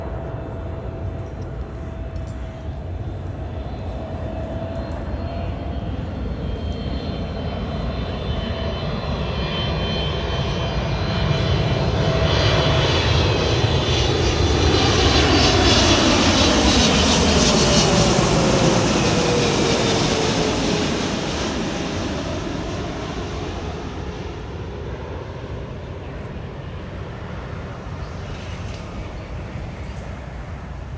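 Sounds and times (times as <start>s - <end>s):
jet passing overhead: 0.0s - 30.9s.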